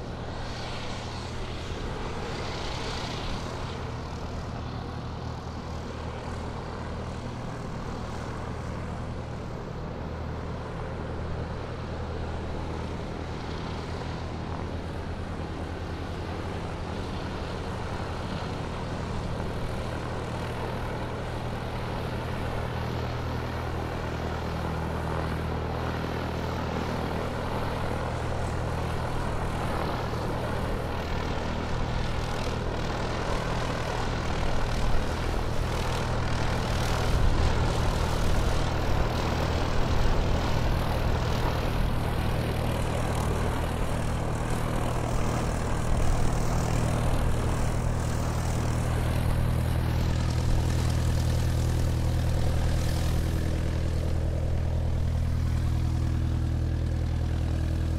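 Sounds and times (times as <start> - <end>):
airplane engine drone: 0.0 - 57.9.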